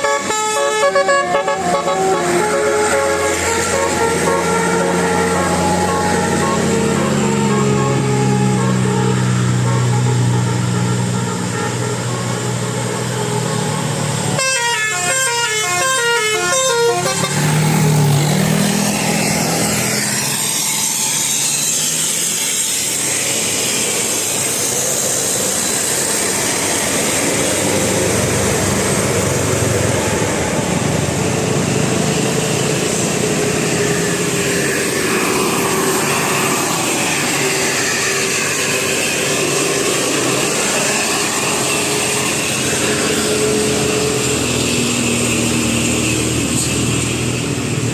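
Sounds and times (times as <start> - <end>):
multi-tone bus horn: 0.0 - 21.4, 22.0 - 47.9
bus and traffic noise: 0.0 - 47.9.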